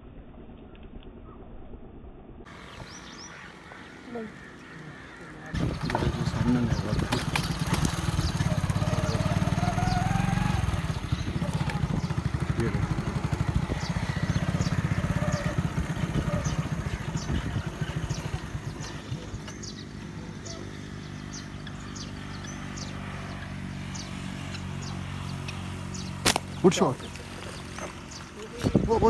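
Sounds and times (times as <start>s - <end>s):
engine running: 4.4s - 29.0s.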